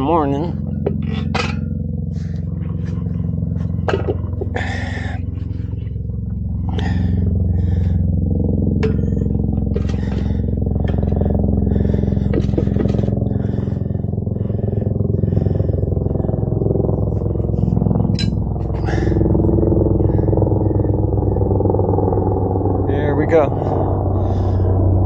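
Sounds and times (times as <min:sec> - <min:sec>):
motor humming: 0:00.0 - 0:25.0.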